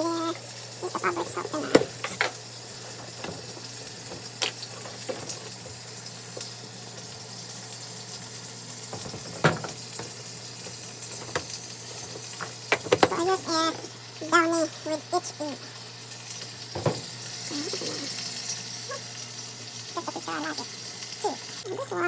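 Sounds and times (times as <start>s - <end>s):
water filling washing machine tub: 0.0s - 22.0s.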